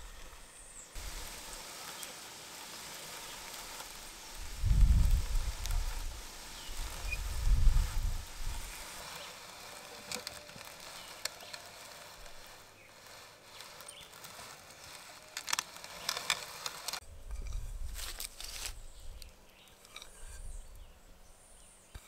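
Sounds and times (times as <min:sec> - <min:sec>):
grain mill grinding: 0:00.0 - 0:20.8.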